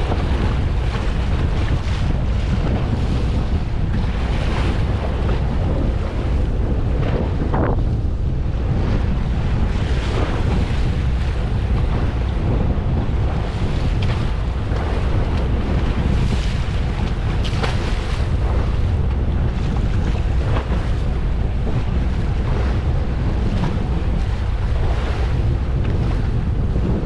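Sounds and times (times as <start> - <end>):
boat noise: 0.0 - 27.0
sea rushing: 0.0 - 27.0
wind buffeting microphone: 0.0 - 27.0.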